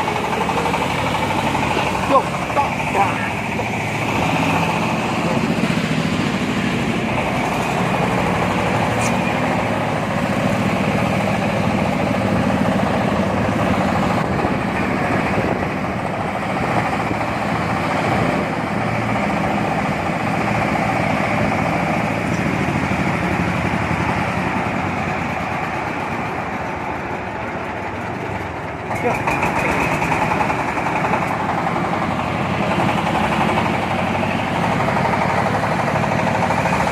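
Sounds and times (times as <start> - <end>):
engine-driven corn sheller running: 0.0 - 36.9.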